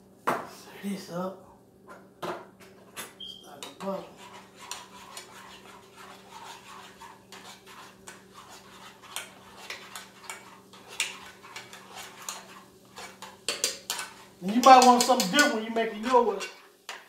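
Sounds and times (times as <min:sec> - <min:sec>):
metal utensil scraping saucepan: 0:03.2 - 0:17.0.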